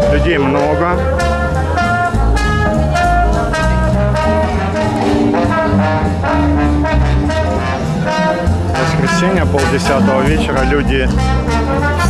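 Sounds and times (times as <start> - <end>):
horn section sustained notes: 0.0 - 12.0
steady drum beat: 0.0 - 12.0
walking bass line: 0.0 - 12.0.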